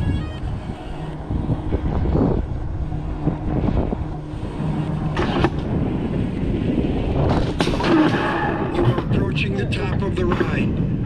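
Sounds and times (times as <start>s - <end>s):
sled lift rumbling hum: 0.0s - 11.0s.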